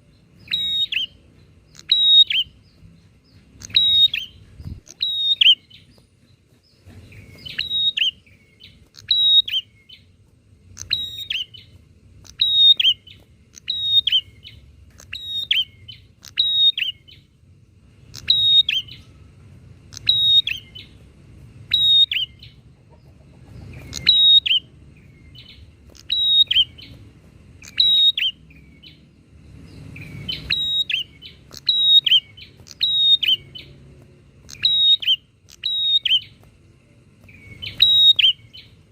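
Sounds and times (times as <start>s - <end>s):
birds calling sharp chirps: 0.0s - 38.9s.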